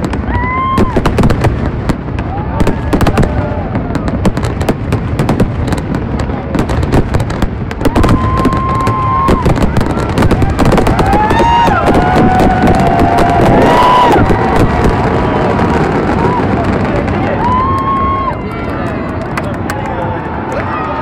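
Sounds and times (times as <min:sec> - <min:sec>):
high whistling fireworks tones: 0:00.0 - 0:18.4
fireworks bangs and crackles: 0:00.0 - 0:21.0.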